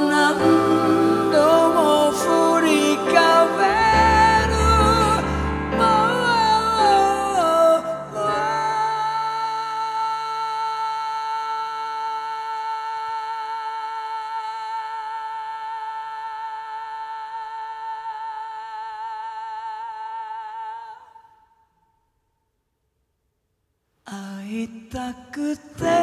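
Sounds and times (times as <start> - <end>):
person singing with vibrato: 0.0 - 21.6, 24.1 - 26.0.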